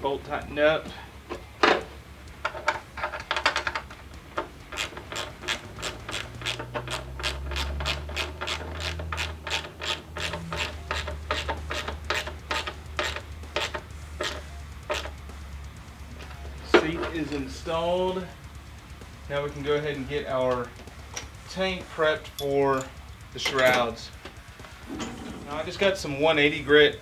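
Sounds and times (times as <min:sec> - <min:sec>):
hand ratchet clicking: 0:00.3 - 0:27.0.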